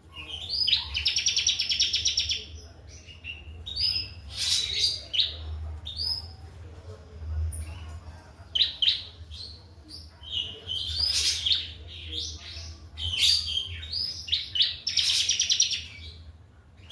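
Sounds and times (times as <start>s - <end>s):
songbird singing: 0.0s - 6.5s, 7.5s - 16.9s.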